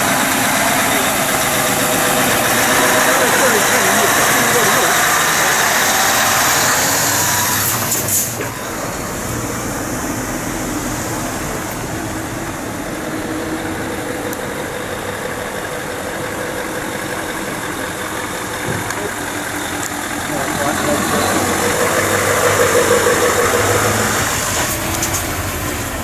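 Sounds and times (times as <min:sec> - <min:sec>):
lorry engine idling: 0:00.0 - 0:26.0.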